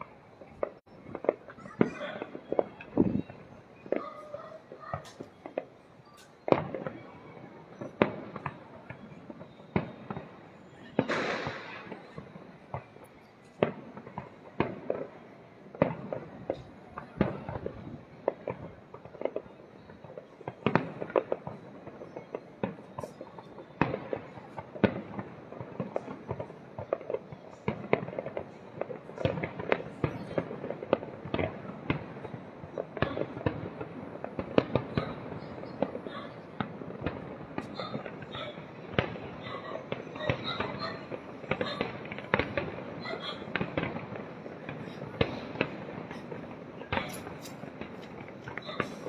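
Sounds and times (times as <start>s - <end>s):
fireworks bangs and booms: 0.0s - 49.0s
fireworks crackling: 0.0s - 49.0s.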